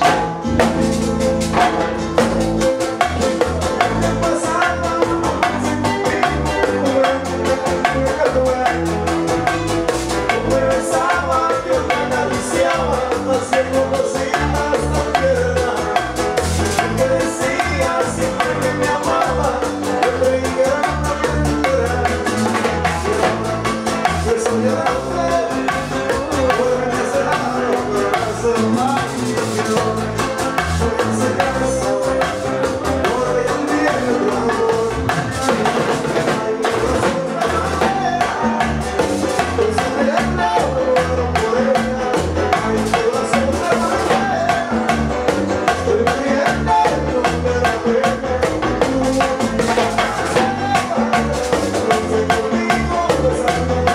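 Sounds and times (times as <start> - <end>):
latin dance band playing: 0.0 - 53.9.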